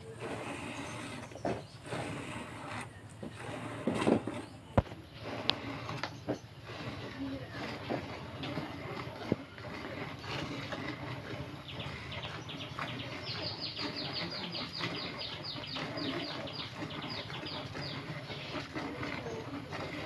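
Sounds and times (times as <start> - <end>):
milk squirting into bucket: 0.0 - 20.0.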